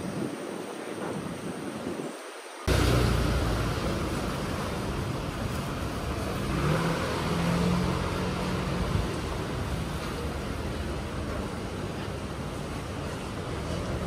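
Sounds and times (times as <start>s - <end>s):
street noise: 0.0s - 14.0s.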